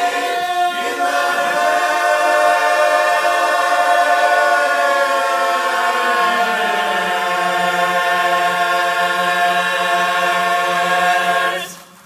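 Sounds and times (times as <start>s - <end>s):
men's chorus singing a cappella: 0.0s - 11.9s.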